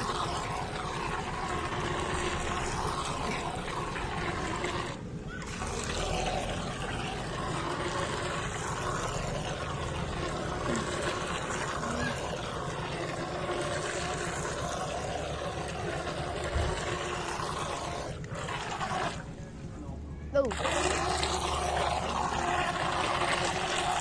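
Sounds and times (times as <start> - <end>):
toy boat motor churning water: 0.0 - 24.0.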